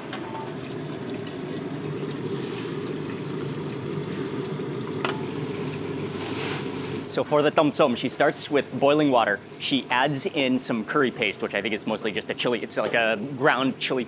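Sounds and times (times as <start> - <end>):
gas burner rumble: 0.0 - 13.6.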